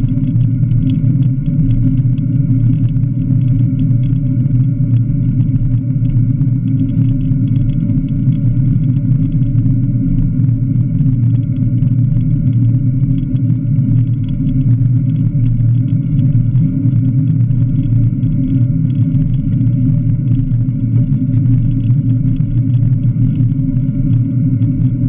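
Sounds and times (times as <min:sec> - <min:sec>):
faint ticks: 0:00.0 - 0:25.0.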